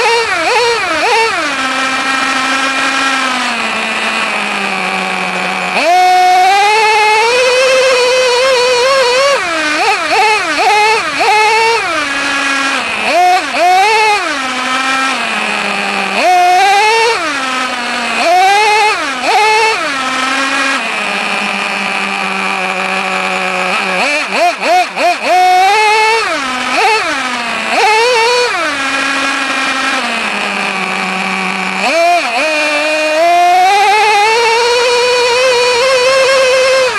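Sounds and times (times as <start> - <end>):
small nitro engine revving: 0.0 - 36.9.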